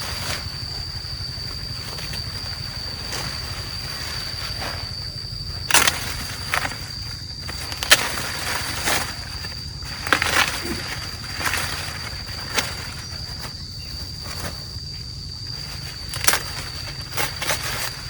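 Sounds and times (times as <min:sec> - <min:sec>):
dry corn plants rustling: 0:00.0 - 0:18.0
high-pitched insect drone: 0:00.0 - 0:18.0
corn ears snapping: 0:01.5 - 0:18.0.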